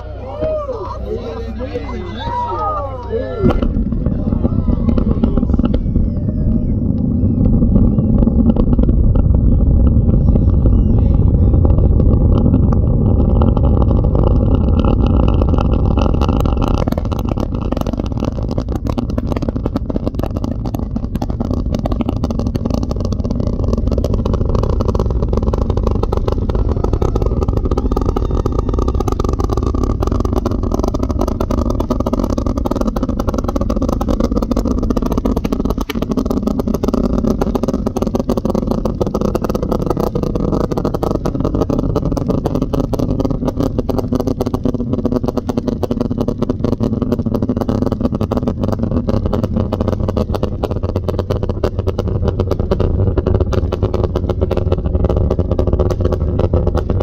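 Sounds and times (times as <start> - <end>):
distant rocket launch roar: 0.0 - 57.0
rocket engine crackling: 0.0 - 57.0.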